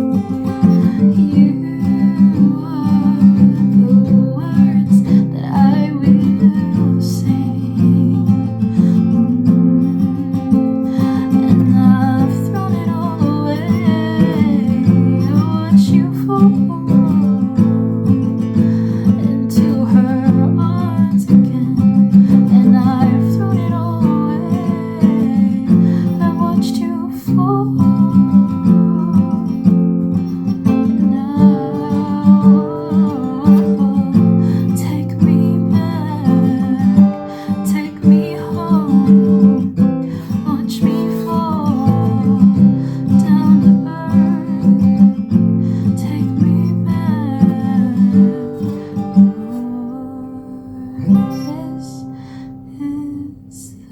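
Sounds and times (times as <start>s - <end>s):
person singing: 0.0s - 9.3s, 10.0s - 17.7s, 19.1s - 29.8s, 30.4s - 45.3s, 45.9s - 53.9s
acoustic guitar chords: 0.0s - 53.9s.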